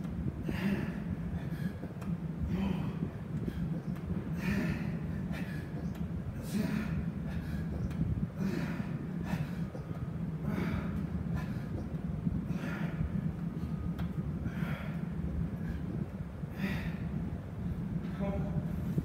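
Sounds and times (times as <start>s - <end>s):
low steady hum: 0.0s - 19.0s
man breathing hard: 0.2s - 18.1s.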